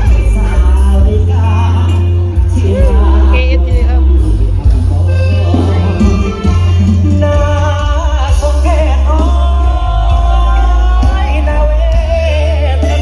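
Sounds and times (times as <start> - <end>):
pop music with singing: 0.0 - 13.0
pulsing deep bass: 0.0 - 13.0.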